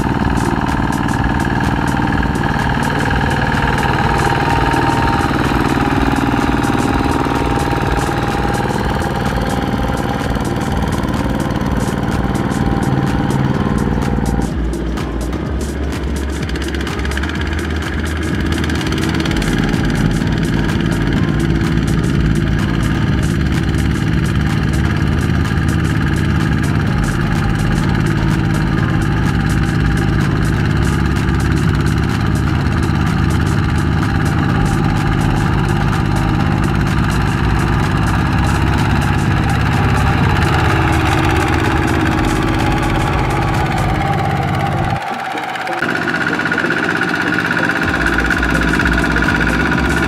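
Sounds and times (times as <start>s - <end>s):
diesel engine chugging: 0.0s - 50.0s.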